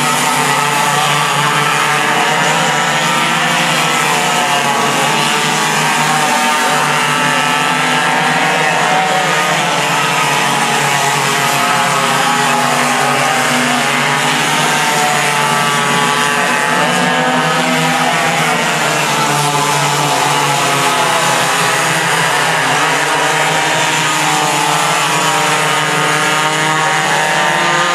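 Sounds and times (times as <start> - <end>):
racing kart engines revving: 0.0 - 27.9.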